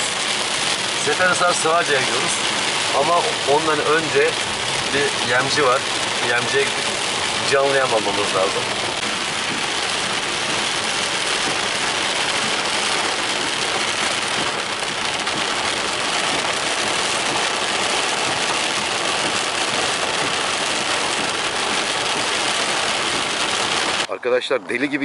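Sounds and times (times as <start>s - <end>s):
heavy rain on car roof: 0.0s - 24.1s.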